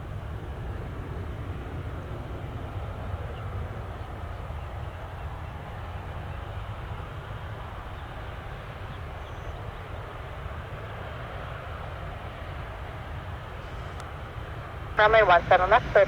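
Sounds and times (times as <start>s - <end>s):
distant jet engines rumbling: 0.0s - 16.0s.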